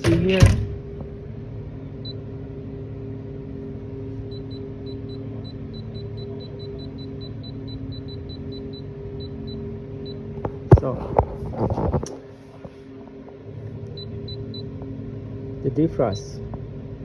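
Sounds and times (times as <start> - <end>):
refrigeration machinery hum: 0.0 - 17.0.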